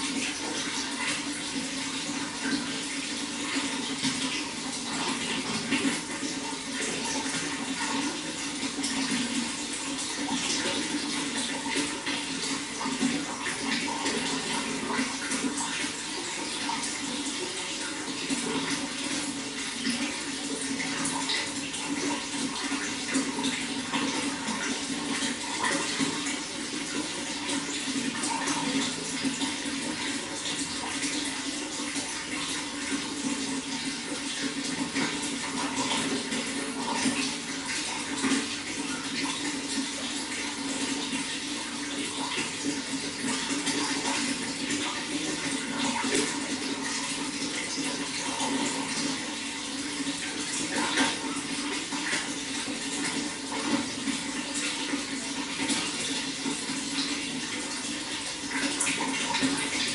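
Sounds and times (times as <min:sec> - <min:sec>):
running water flowing: 0:00.0 - 0:59.9.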